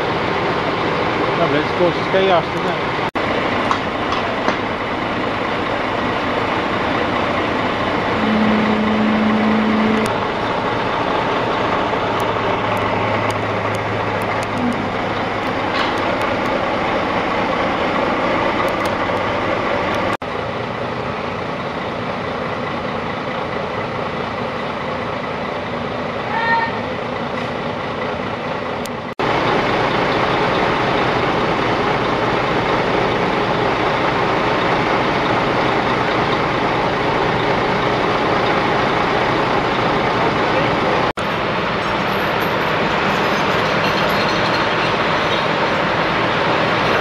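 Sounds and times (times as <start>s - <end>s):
heavy truck engines rumbling: 0.0s - 47.0s
street noise: 0.0s - 47.0s.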